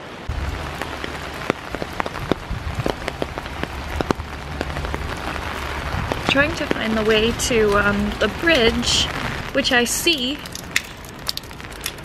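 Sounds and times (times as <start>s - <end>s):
steady rain patter: 0.0s - 12.0s
low steady rumble: 0.2s - 12.0s
raindrops plinking into water: 0.3s - 12.0s.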